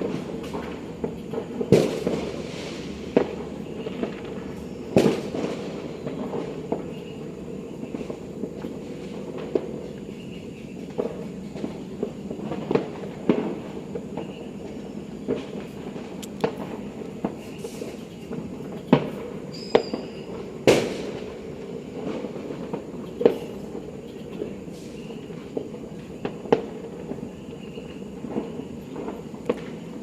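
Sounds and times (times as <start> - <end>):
fireworks and firecrackers banging: 0.0 - 30.0
steady background noise: 0.0 - 30.0.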